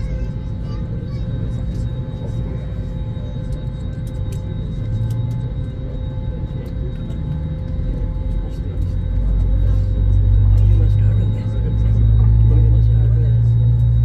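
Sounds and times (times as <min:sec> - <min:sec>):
aircraft cabin rumble: 0:00.0 - 0:14.0
faint whine: 0:00.0 - 0:14.0.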